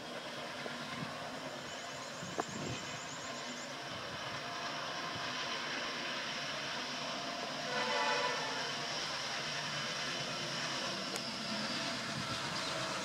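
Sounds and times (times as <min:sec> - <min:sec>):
diesel train running: 0:00.0 - 0:13.0.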